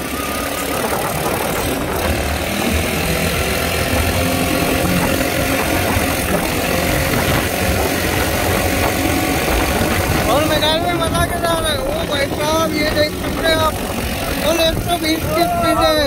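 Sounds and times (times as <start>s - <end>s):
dune buggy engine running: 0.0s - 16.0s
rush of driving noise: 0.0s - 16.0s.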